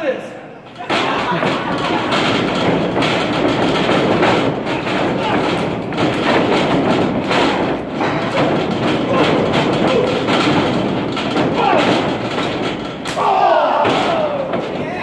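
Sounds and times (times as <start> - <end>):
thuds on wrestling ring canvas: 0.8 - 15.0.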